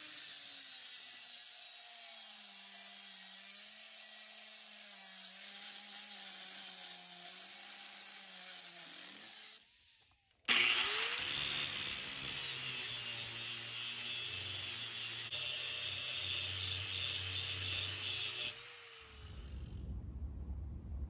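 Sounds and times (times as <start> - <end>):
angle grinder grinding steel: 0.0 - 19.7.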